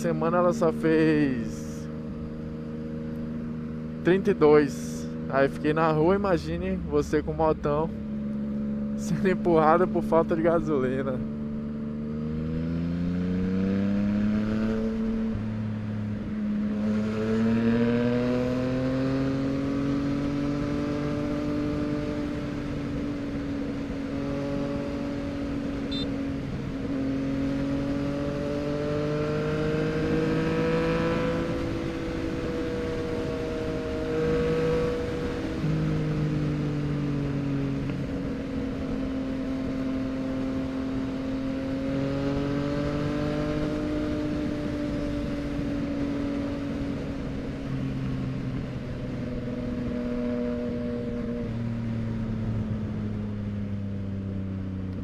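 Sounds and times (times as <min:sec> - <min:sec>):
motorcycle engine under way: 0:00.0 - 0:55.0.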